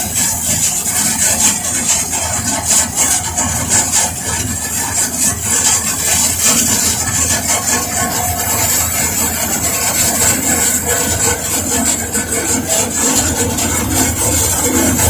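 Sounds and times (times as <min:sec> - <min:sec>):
combine harvester engine rumble: 0:00.0 - 0:15.0.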